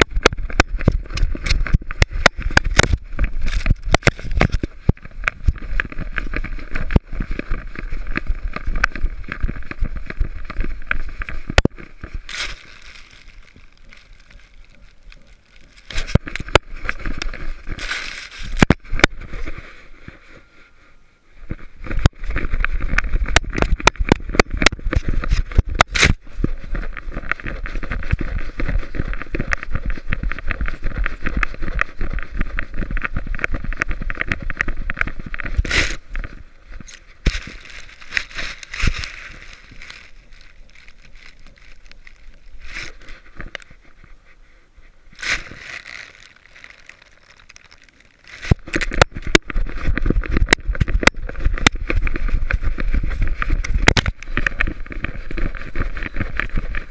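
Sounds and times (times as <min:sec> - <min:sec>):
rubbing and scraping on camera housing: 0:00.0 - 0:56.9.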